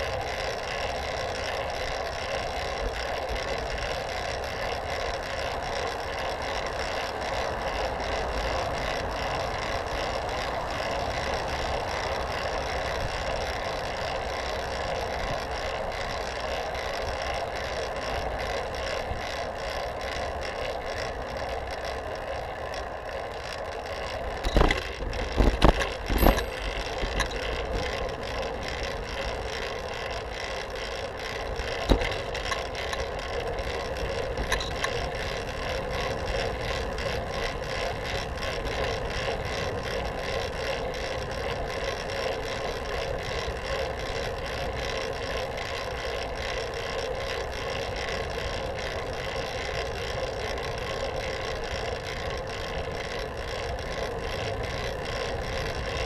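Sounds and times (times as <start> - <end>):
bicycle tyres rolling hum: 0.0 - 56.0.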